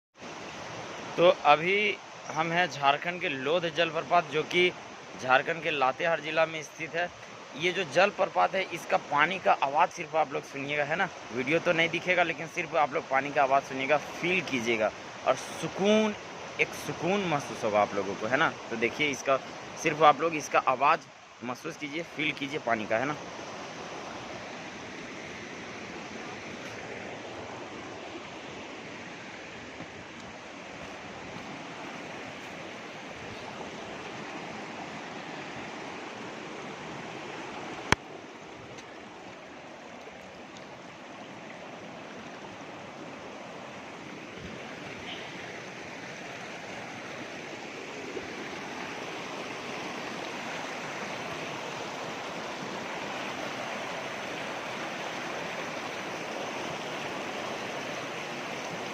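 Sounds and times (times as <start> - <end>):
waterfall rushing and splashing: 0.2 - 58.9.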